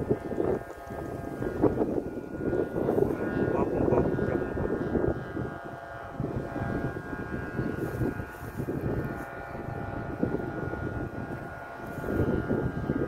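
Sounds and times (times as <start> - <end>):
hum of held tones: 0.0 - 13.0
wind buffeting microphone: 0.0 - 13.0.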